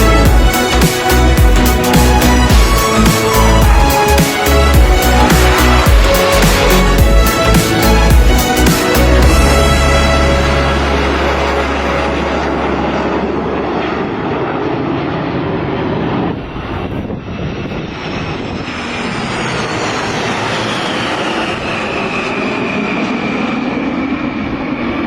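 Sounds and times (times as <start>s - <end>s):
jet aircraft flying past: 0.0s - 25.0s.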